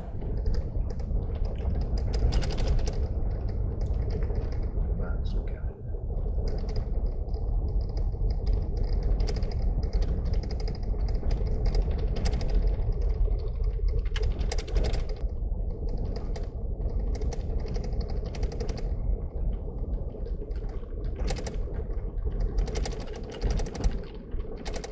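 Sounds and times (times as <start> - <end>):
fast clicking rattle: 0.0 - 5.0, 6.1 - 24.9
road rumble inside car: 0.0 - 24.0.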